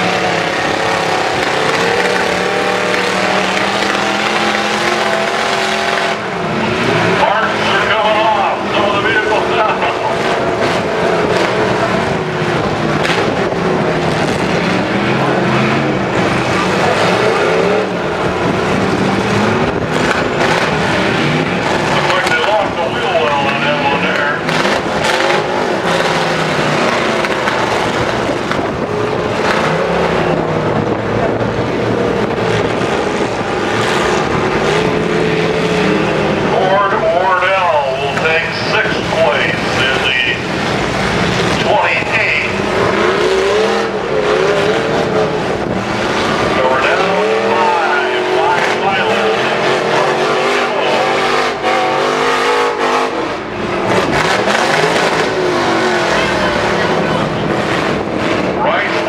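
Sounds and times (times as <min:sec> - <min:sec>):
truck engines running hard: 0:00.0 - 0:59.0.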